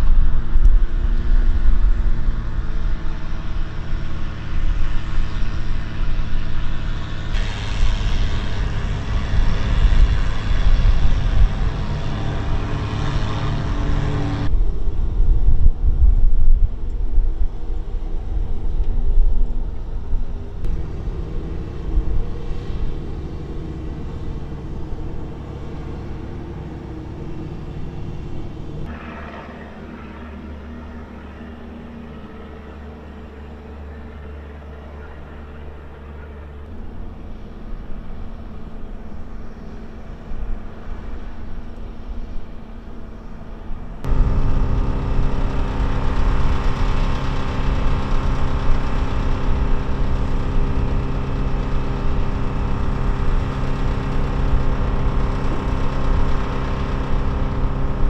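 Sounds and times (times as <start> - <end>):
turboprop aircraft rumbling: 0.0 - 58.0.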